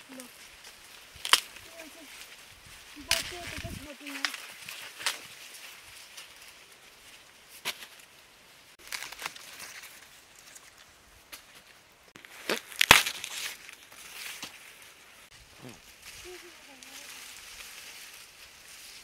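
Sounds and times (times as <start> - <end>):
dry husks rustling and tearing: 0.0 - 19.0.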